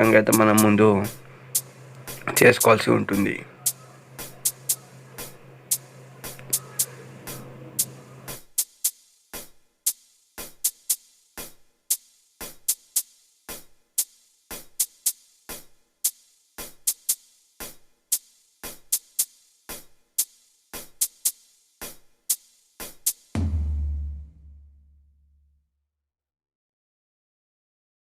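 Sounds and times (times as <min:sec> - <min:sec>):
electronic drum beat: 0:00.0 - 0:25.1.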